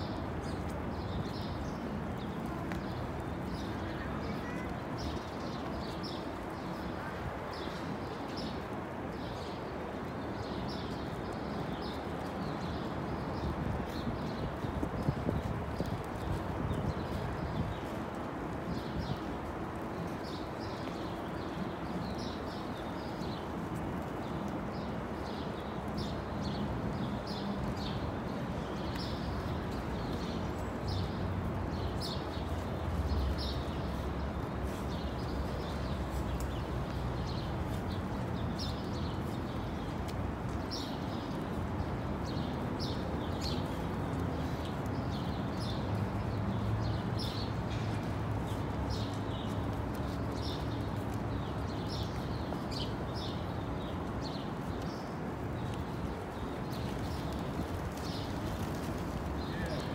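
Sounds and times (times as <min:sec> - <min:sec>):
small birds chirping: 0:10.7 - 0:59.9.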